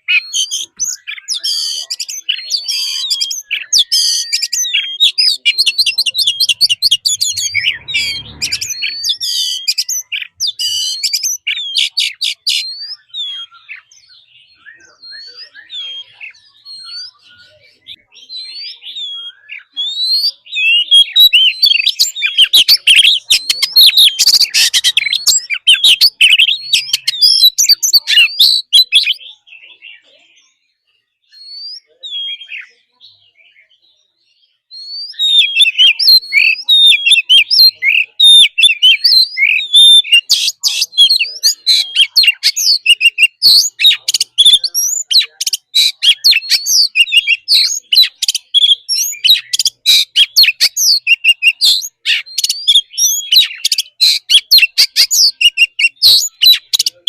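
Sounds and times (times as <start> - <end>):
bird singing whistles and trills: 0.0 - 57.0.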